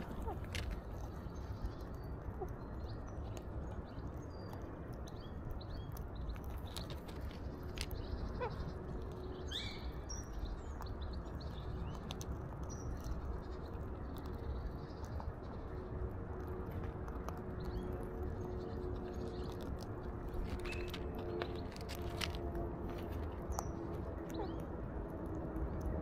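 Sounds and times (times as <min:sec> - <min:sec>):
birds chirping: 0:00.0 - 0:26.0
steady low rumble: 0:00.0 - 0:26.0.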